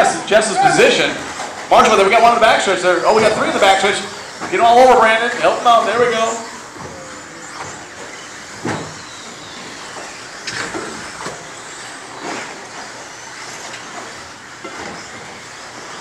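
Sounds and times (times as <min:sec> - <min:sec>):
hum of toy truck motors: 0:00.0 - 0:16.0.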